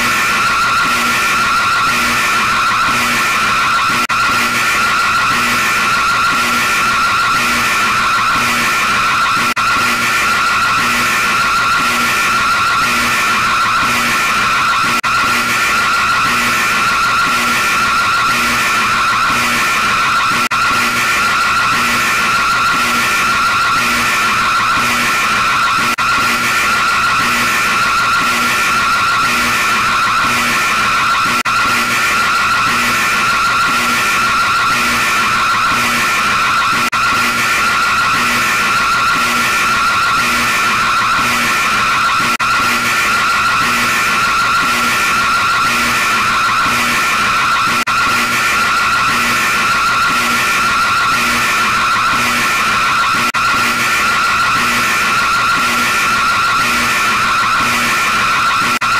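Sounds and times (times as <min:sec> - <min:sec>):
pulsing electronic alarm tone: 0:00.0 - 0:58.9.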